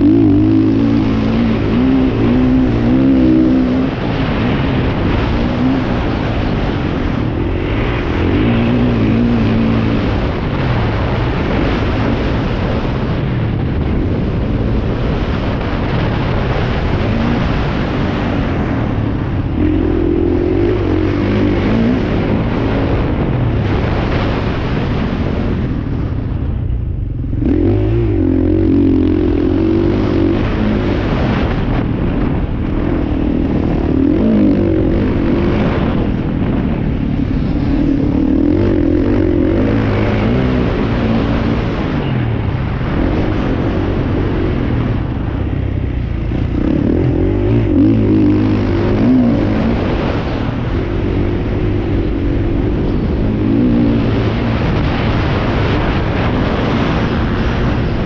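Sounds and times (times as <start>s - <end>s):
dirt bike engines running: 0.0s - 58.0s.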